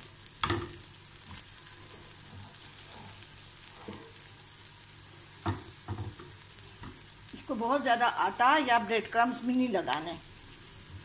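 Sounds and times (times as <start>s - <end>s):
patties sizzling in a pan: 0.0s - 11.0s.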